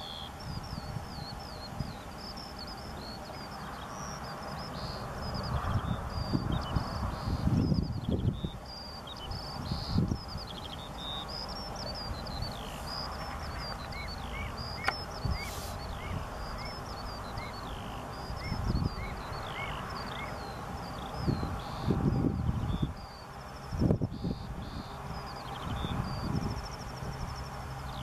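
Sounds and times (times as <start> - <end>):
birds chirping and twittering: 0.0 - 28.0.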